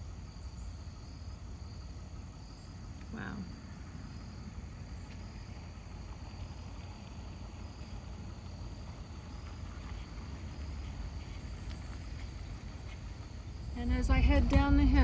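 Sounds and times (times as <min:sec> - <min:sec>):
car engine rumbling: 0:00.0 - 0:15.0
crickets trilling: 0:00.0 - 0:15.0.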